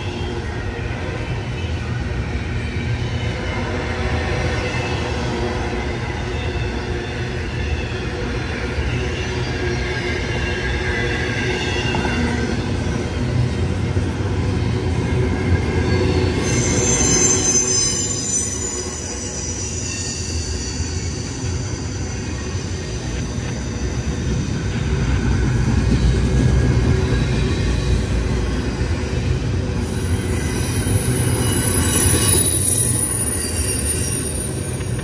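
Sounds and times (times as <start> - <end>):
freight train rumbling past: 0.0 - 35.0
high wheel squeal: 0.0 - 35.0.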